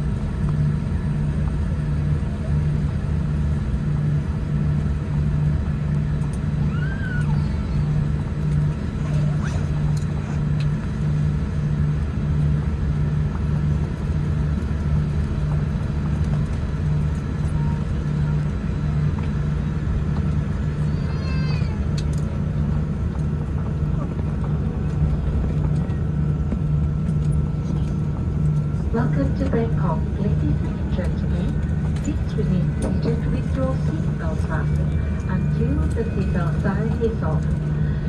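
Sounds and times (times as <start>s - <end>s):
airplane cabin drone: 0.0s - 38.0s
pulsing low hum: 0.0s - 38.0s.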